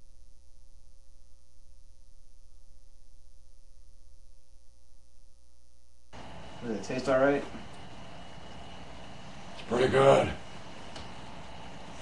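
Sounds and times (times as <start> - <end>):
faint steady tones: 0.0 - 12.0
low electrical mains hum: 0.0 - 12.0.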